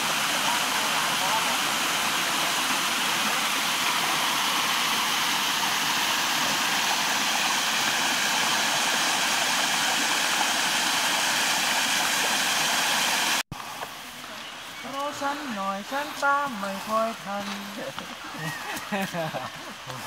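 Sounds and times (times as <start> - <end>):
rocky stream rushing: 0.0 - 20.0.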